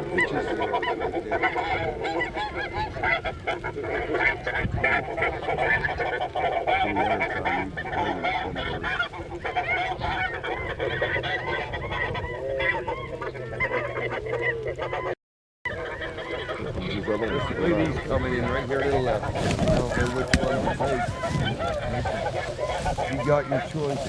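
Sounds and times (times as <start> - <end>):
flock of geese honking: 0.0 - 24.0.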